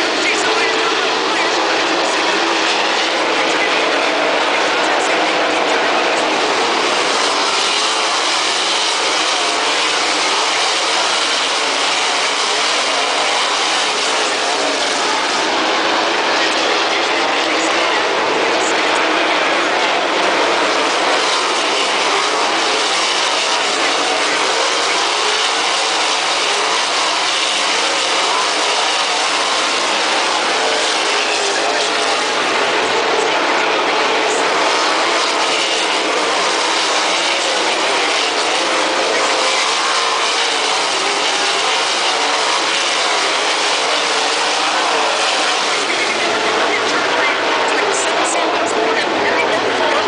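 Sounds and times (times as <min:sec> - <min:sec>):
racing car engines passing: 0:00.0 - 0:50.0.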